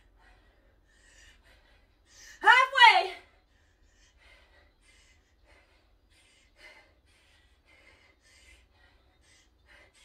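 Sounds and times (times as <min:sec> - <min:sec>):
quick panting breaths: 0:00.0 - 0:02.4, 0:03.2 - 0:10.0.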